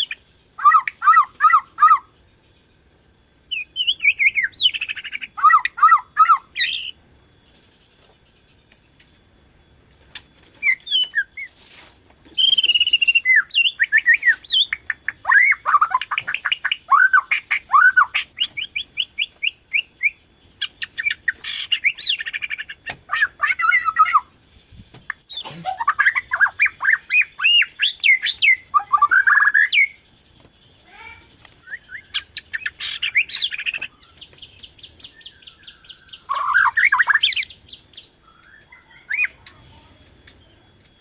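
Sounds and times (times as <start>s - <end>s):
songbird whistling phrases: 0.0s - 2.2s, 3.5s - 7.0s, 10.6s - 11.5s, 12.3s - 24.3s, 25.3s - 30.0s, 30.9s - 40.6s.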